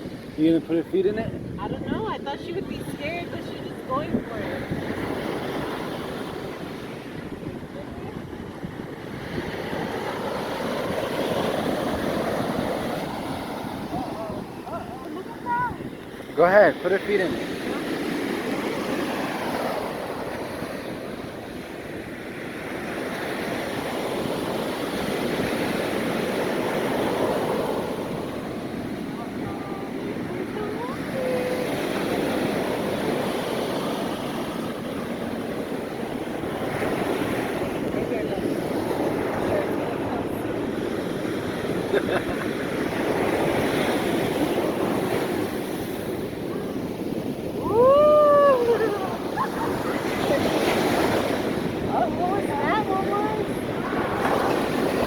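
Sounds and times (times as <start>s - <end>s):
ocean waves breaking: 0.0s - 55.0s
wind buffeting microphone: 0.0s - 55.0s.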